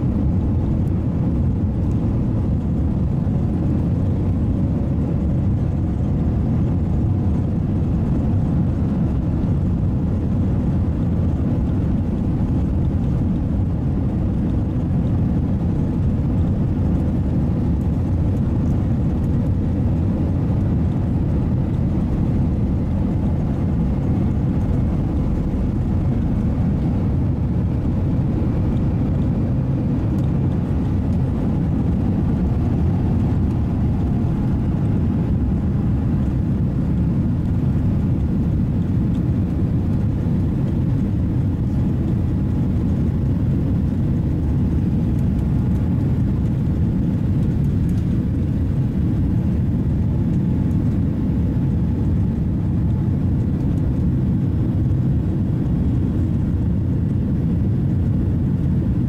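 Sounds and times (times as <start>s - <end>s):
jet engines rumbling in cabin: 0.0s - 59.0s.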